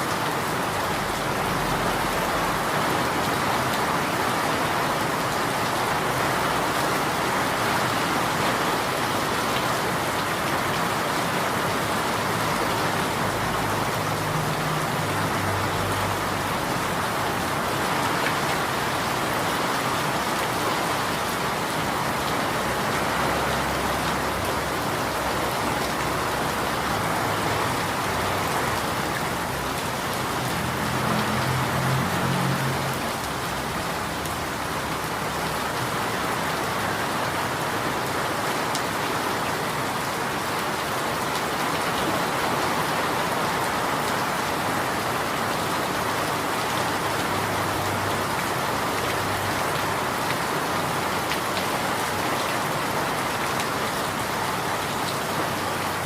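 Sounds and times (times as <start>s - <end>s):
dense rainfall: 0.0s - 56.0s.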